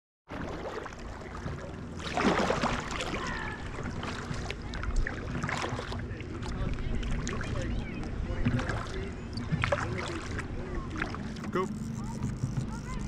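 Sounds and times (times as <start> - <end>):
paddle splashing: 0.3 - 13.0
water noise: 0.3 - 13.0.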